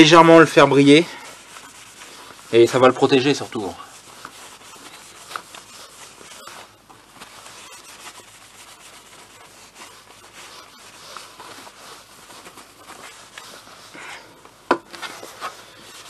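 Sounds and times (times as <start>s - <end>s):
cloth scrubbing painted metal: 0.0s - 14.3s.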